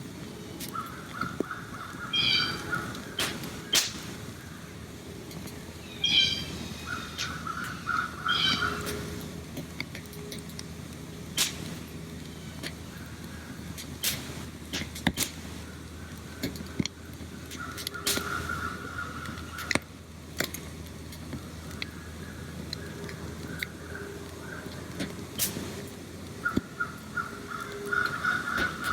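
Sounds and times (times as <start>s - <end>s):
steady outdoor background: 0.0s - 28.9s
wild birds calling: 0.2s - 28.9s.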